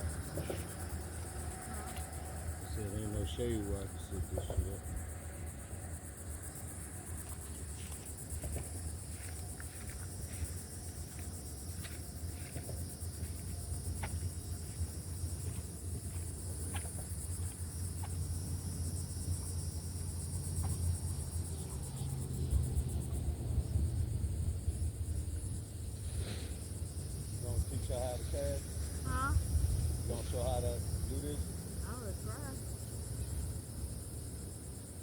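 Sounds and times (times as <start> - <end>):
insect chorus pulsing buzz: 0.0 - 35.0
low steady rumble: 0.0 - 35.0.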